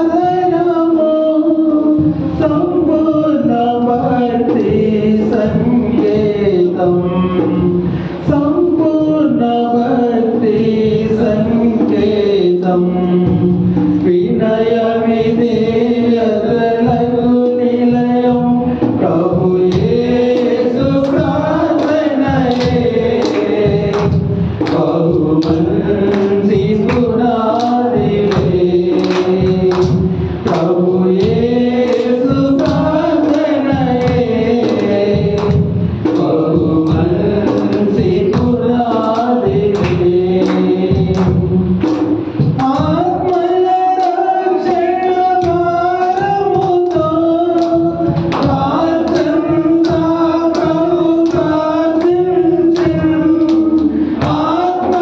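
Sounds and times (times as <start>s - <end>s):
man singing into a microphone: 0.0s - 55.0s
regular beat: 0.0s - 55.0s.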